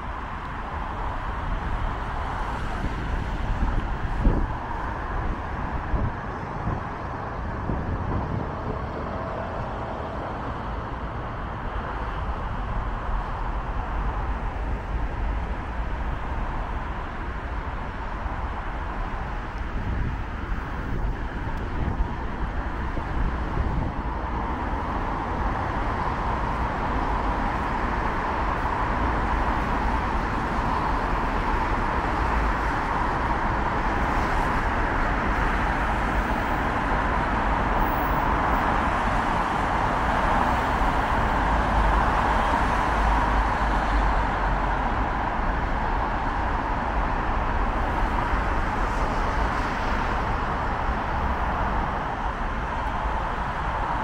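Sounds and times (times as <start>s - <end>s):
low traffic rumble: 0.0s - 54.0s.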